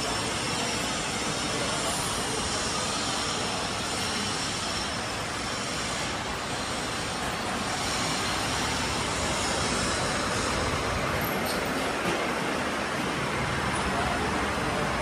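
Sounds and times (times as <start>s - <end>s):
factory hall rushing noise: 0.0s - 15.0s.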